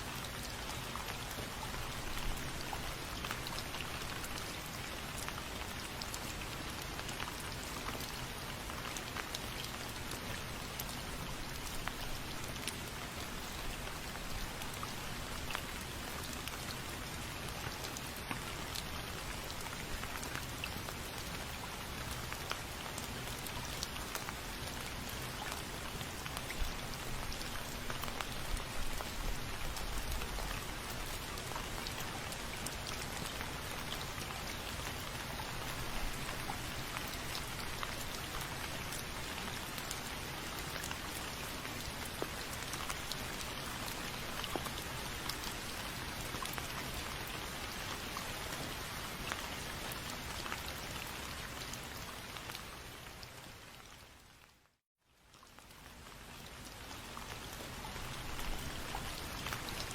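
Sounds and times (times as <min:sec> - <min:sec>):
steady rain hiss: 0:00.0 - 0:59.9
raindrops clicking on surface: 0:00.2 - 0:51.8.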